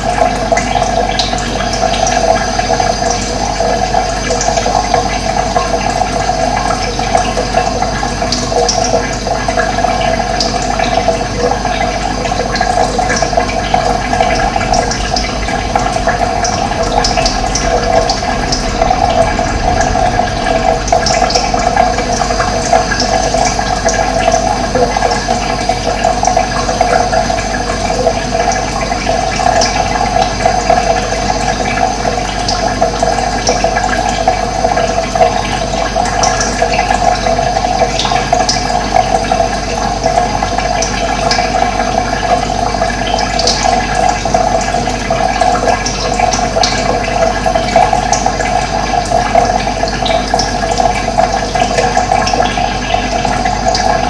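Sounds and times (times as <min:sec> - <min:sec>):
water flowing and gurgling: 0:00.0 - 0:54.0.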